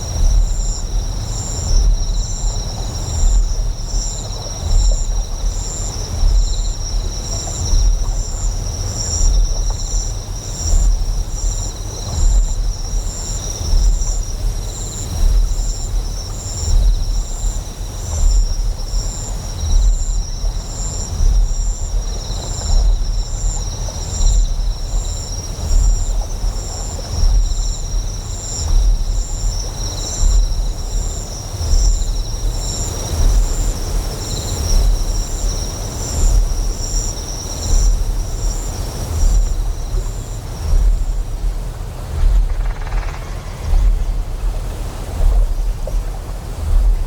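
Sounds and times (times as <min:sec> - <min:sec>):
high insect chirps: 0:00.0 - 0:46.8
deep generator hum: 0:00.0 - 0:47.0
flowing water hiss: 0:00.0 - 0:47.0.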